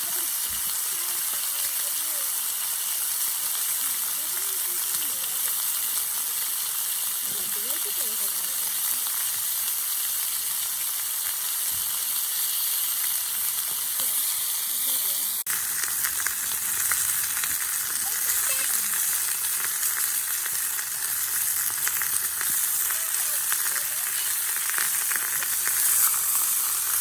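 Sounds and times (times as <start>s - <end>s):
food sizzling in a skillet: 0.0s - 27.0s.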